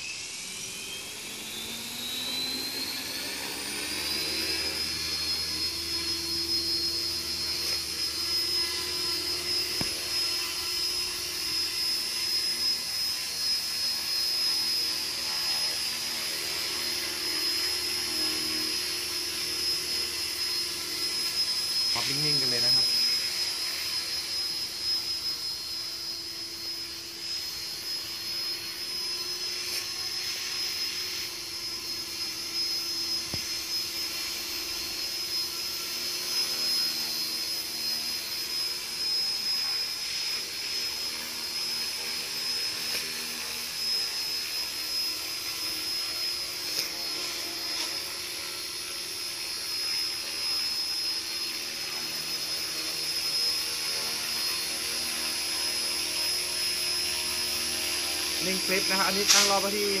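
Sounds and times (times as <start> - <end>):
electric motor high-pitched whine: 0.0 - 60.0
helicopter rotor hum: 0.0 - 60.0.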